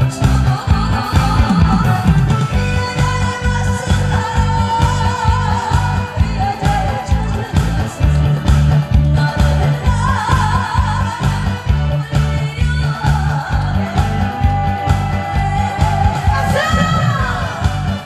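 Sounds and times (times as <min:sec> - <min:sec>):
backing track with bass beat: 0:00.0 - 0:18.0
woman singing with vibrato: 0:00.0 - 0:18.0.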